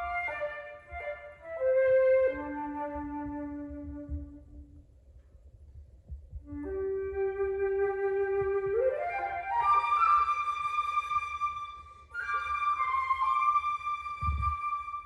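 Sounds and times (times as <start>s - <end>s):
solo flute playing: 0.0s - 4.7s, 6.4s - 15.0s.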